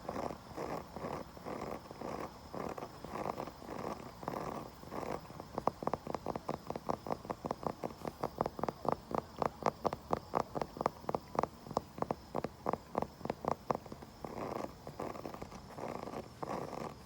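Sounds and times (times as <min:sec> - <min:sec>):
scratching on wood: 0:00.1 - 0:17.0.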